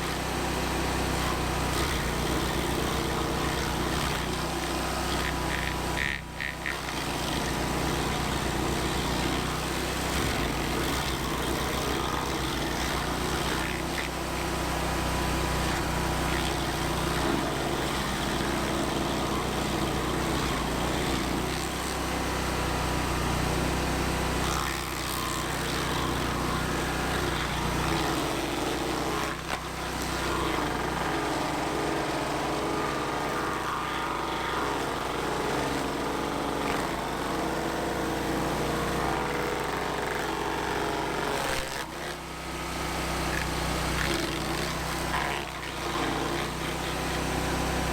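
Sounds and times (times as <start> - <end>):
stump grinder engine running: 0.0 - 47.9.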